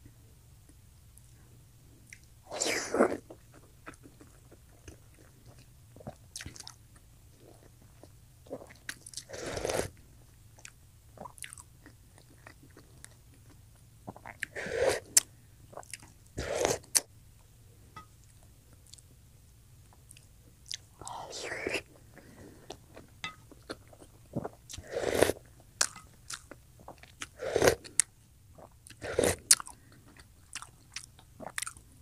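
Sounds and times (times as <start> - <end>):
person chewing food: 2.0 - 10.0, 10.6 - 17.1, 18.2 - 19.1, 19.9 - 32.0.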